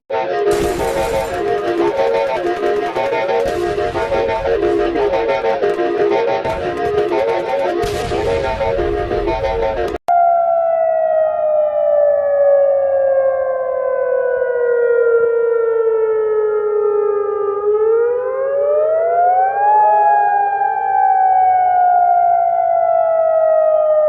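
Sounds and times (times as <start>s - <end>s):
civil defence siren wailing: 0.1s - 24.0s.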